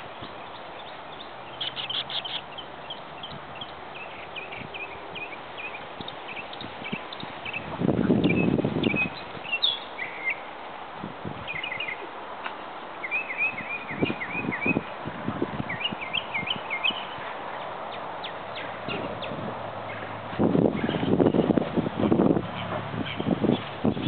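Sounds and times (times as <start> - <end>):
songbird chirping: 0.0 - 10.5, 11.4 - 15.0, 15.6 - 21.6.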